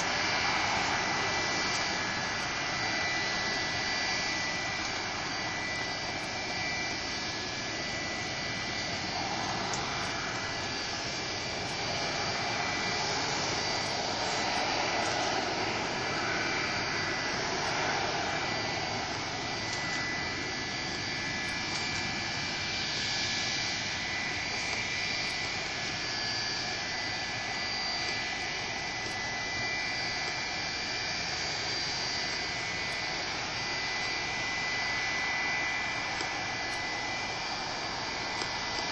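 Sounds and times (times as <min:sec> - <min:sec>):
jet engines running with whine: 0:00.0 - 0:38.9.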